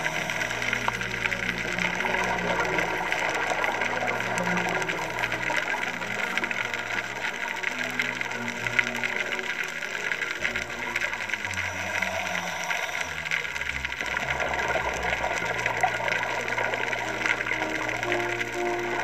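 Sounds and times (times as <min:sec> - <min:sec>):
crackling hiss: 0:00.0 - 0:19.0
soft music of low held notes: 0:00.0 - 0:19.0.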